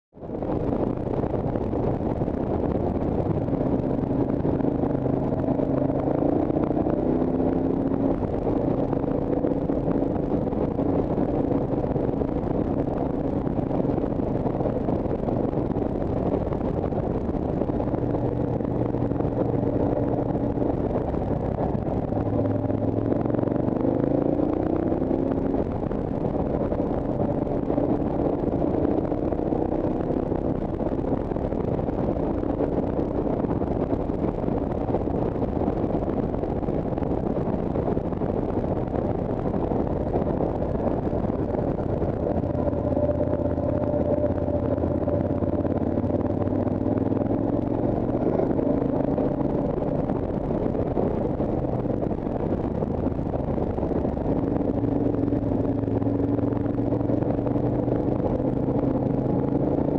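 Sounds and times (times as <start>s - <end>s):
wind noise on microphone: 0.0s - 59.9s
motorcycle engine running: 0.2s - 59.9s.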